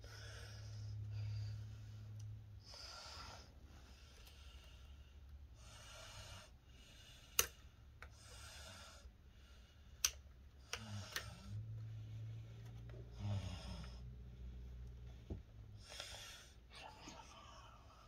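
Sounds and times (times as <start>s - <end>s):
man breathing heavily: 0.0s - 14.6s, 15.7s - 18.0s.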